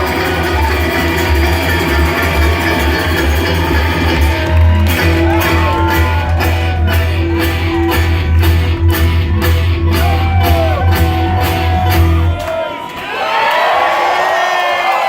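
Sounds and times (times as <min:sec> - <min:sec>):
bluegrass band playing: 0:00.0 - 0:12.4
low bass note: 0:00.0 - 0:12.4
guitar: 0:00.0 - 0:13.0.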